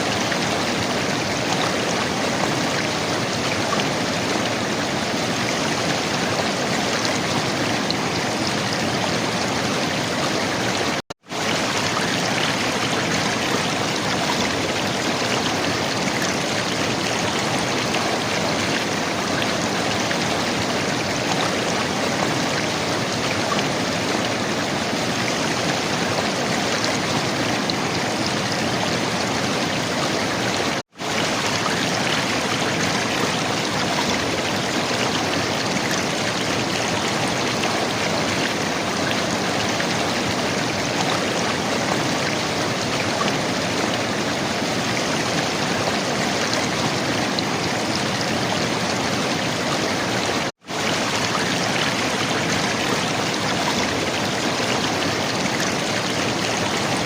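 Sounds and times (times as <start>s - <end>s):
river water gurgling and rushing: 0.0s - 57.0s.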